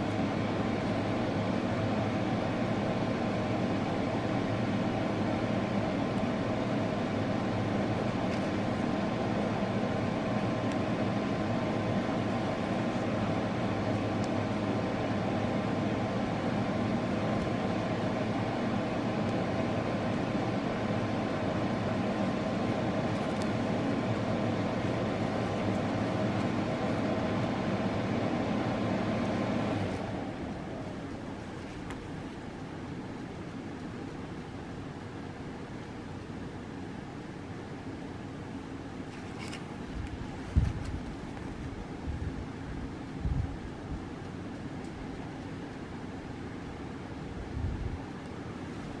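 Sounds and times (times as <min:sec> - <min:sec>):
mechanical hum: 0:00.0 - 0:49.0.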